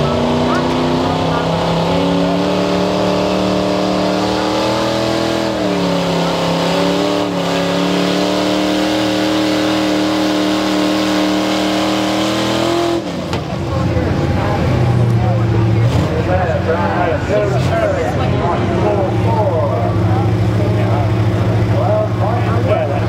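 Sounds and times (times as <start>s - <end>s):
pickup engine at full throttle: 0.0s - 23.0s.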